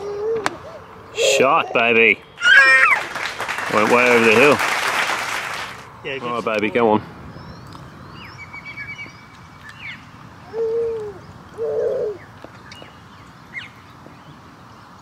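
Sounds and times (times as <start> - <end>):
loud drawn-out bird calls: 0.0 - 6.0, 6.8 - 13.9.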